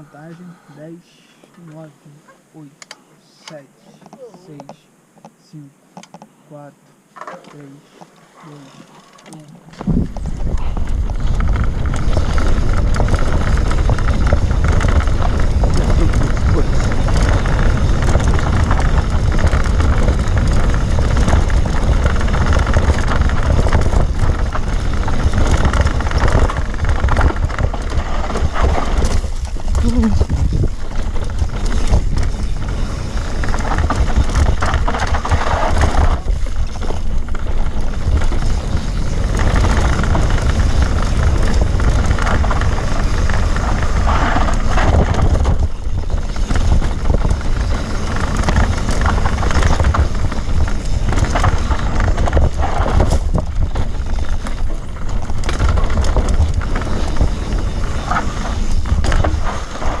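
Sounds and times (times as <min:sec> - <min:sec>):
motorbike mechanical rattling: 0:08.4 - 1:00.0
wind buffeting microphone: 0:09.8 - 1:00.0.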